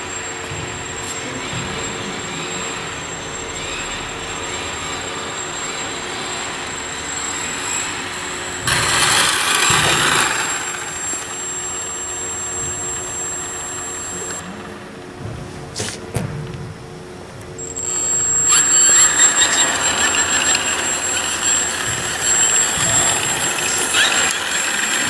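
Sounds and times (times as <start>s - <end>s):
machine high whine: 0.0s - 16.1s, 16.7s - 25.0s.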